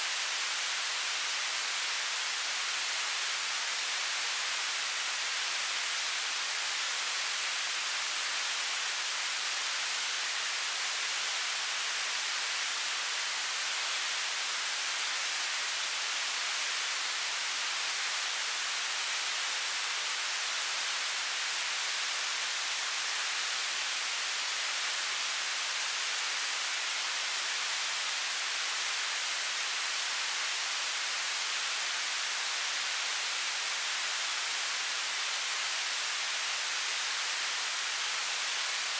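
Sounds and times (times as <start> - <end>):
television static hiss: 0.0 - 38.9.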